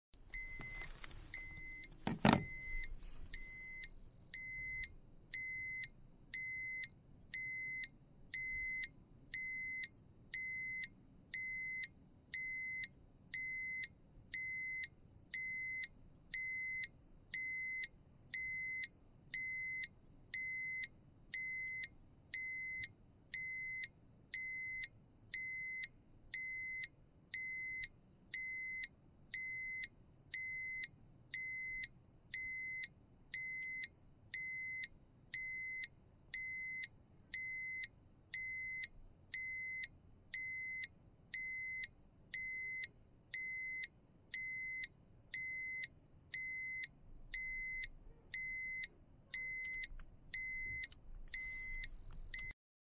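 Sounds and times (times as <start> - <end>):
steady high-pitched alarm tone: 0.2 - 52.6.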